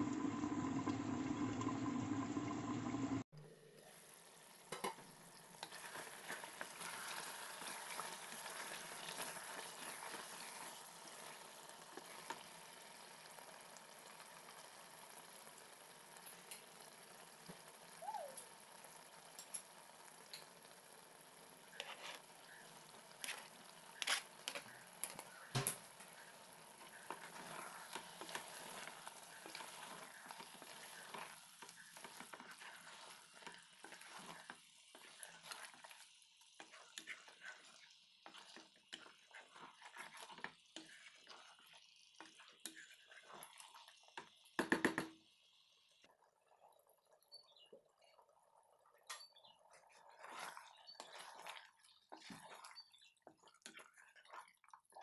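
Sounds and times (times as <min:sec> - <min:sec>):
food sizzling in a pot: 0:00.0 - 0:46.1.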